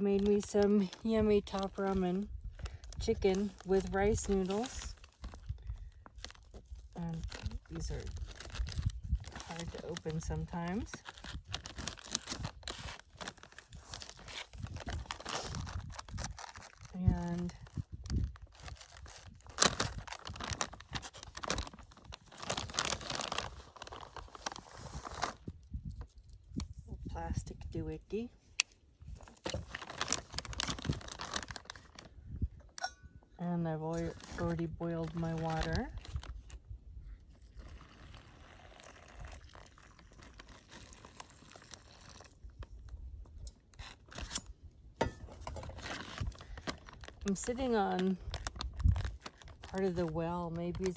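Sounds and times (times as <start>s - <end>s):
plastic packet crinkling and tearing: 0.0s - 26.6s, 28.6s - 32.2s, 33.9s - 44.5s, 45.4s - 50.9s.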